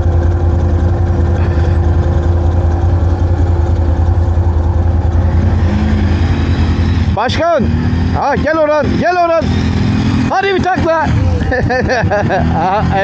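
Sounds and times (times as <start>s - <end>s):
atv engine idling: 0.0s - 13.0s.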